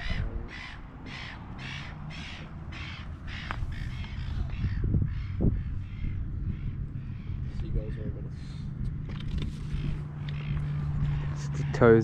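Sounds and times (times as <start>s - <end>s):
bird harsh calls: 0.0s - 12.0s
wind rumble on microphone: 0.0s - 12.0s.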